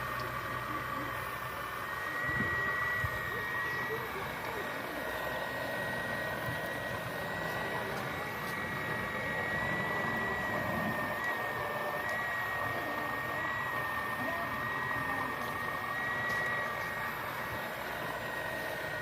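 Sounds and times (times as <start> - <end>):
electric motor whine: 0.0 - 19.0
noisy whir: 0.0 - 19.0.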